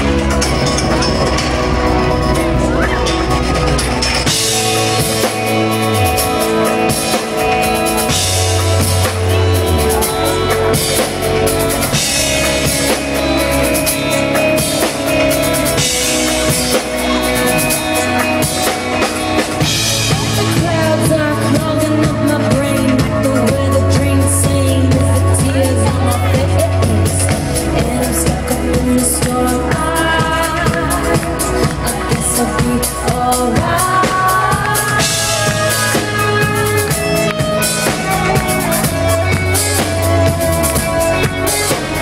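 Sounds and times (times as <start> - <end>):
live pop band playing: 0.0 - 42.0.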